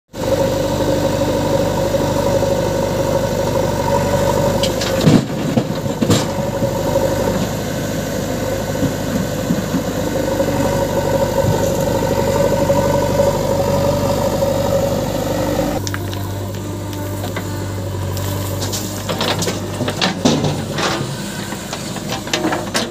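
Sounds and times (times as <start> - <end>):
diesel engines running: 0.1 - 22.9.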